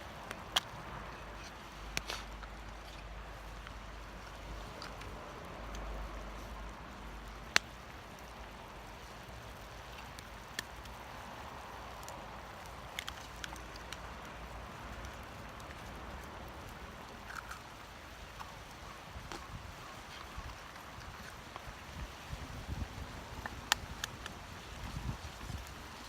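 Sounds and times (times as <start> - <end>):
fire crackles and pops: 0.0 - 26.0
wood fire burning: 0.0 - 26.0.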